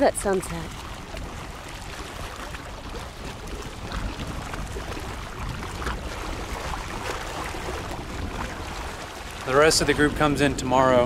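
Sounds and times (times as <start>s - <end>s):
waves washing against rocks: 0.0s - 11.0s
wind rumbling on microphone: 0.0s - 11.0s.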